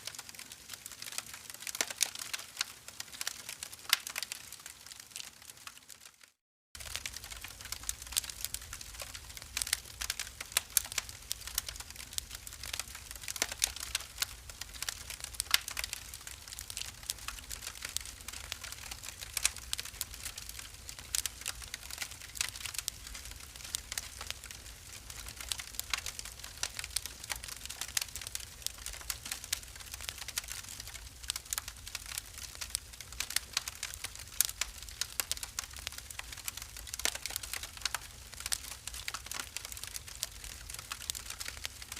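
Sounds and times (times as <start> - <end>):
wood fire crackling: 0.0 - 41.9
rumble of flames: 6.8 - 41.9.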